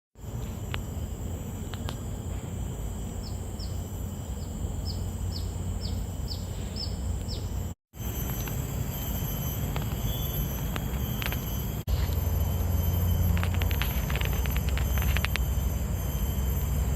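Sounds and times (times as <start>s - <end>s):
low outdoor rumble: 0.2s - 16.9s.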